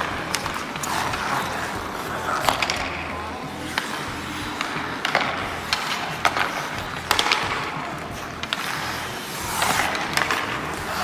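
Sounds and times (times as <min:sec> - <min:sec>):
hockey sticks and pucks clacking: 0:00.0 - 0:11.0
skate blades scraping ice: 0:00.0 - 0:11.0.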